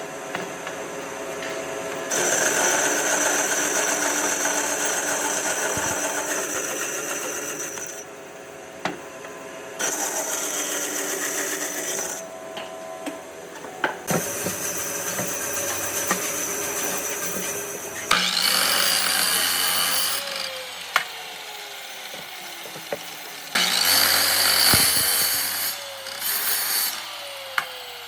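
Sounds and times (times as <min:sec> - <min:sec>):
power tool working wood: 0:00.1 - 0:08.1, 0:09.3 - 0:28.0.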